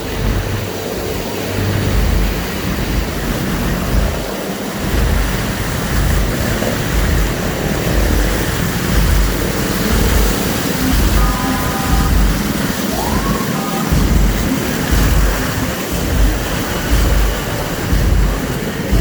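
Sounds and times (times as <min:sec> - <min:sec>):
heavy rain: 0:00.0 - 0:19.0
low rumble: 0:00.0 - 0:19.0
traffic on wet road: 0:00.0 - 0:19.0.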